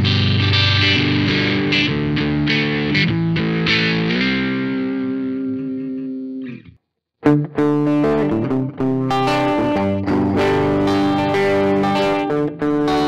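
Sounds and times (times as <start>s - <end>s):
overdriven electric guitar chords: 0.0s - 13.0s.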